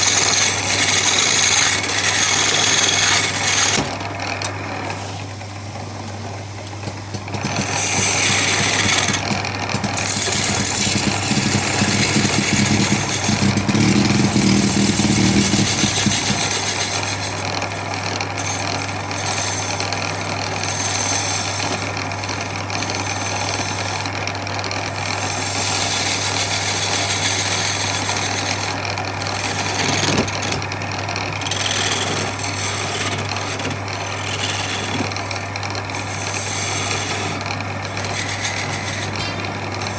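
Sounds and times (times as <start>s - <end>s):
power tool motor on wood: 0.0s - 5.2s, 7.1s - 39.9s.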